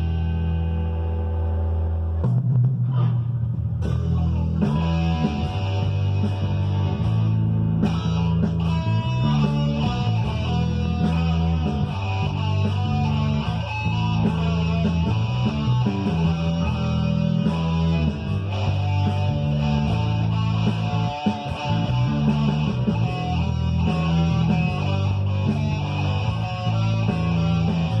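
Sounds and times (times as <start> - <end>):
guitar notes: 0.0 - 28.0
rock backing track bass and drums: 0.0 - 28.0.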